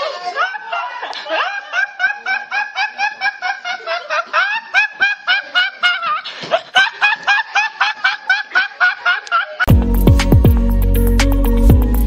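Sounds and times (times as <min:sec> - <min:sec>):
boy giggling: 0:00.0 - 0:09.7.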